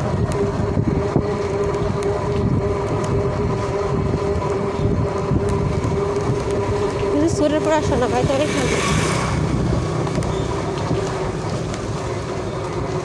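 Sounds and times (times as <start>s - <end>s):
constant whine: 0.0s - 13.0s
wheels rumbling on road: 0.0s - 13.0s
wind on microphone: 0.0s - 13.0s.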